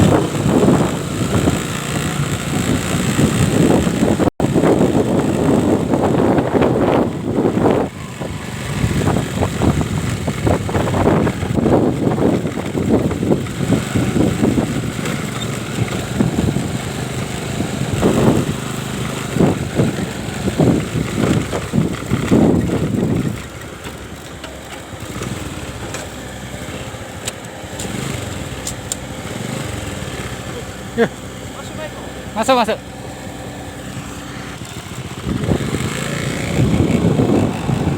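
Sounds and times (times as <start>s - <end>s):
engine running unevenly: 0.0s - 37.9s.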